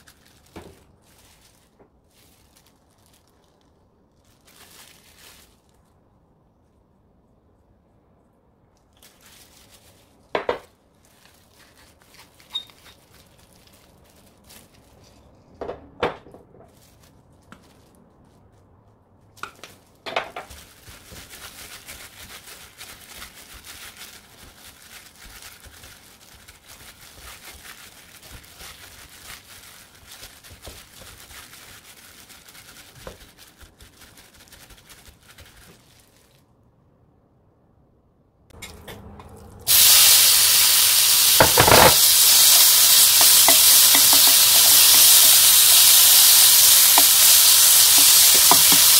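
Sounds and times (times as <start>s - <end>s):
plastic glove crinkling: 0.0s - 6.8s, 8.8s - 15.6s, 16.6s - 36.6s, 39.7s - 48.9s.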